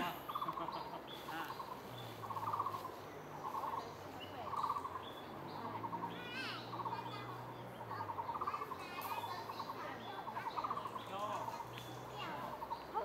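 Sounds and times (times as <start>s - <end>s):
bird rapid trills: 0.0s - 13.0s.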